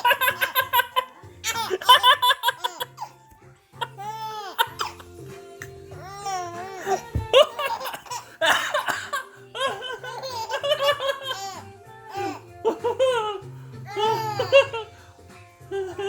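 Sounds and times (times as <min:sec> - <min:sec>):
baby laughing: 0:00.0 - 0:15.0, 0:15.7 - 0:16.0
background music: 0:00.0 - 0:16.0.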